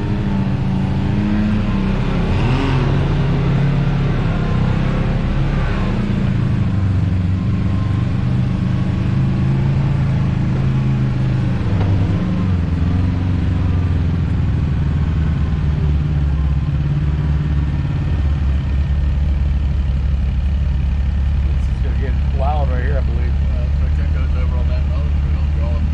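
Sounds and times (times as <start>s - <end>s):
off-road vehicle engine under load: 0.0s - 25.9s.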